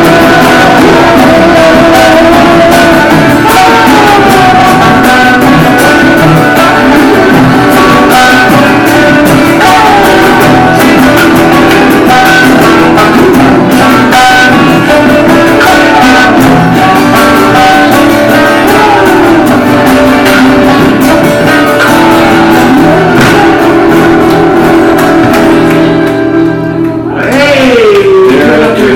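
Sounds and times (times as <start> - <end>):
live band playing: 0.0 - 28.9
voices singing together: 0.0 - 28.9.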